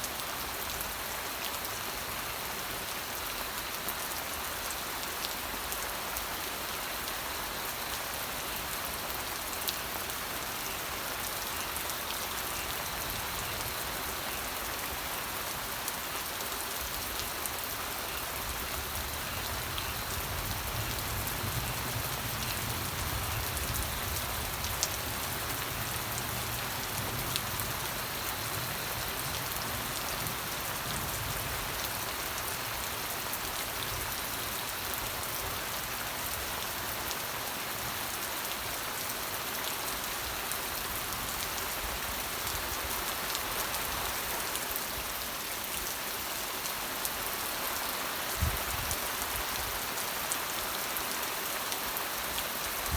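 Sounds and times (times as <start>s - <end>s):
rain falling on a surface: 0.0s - 52.9s.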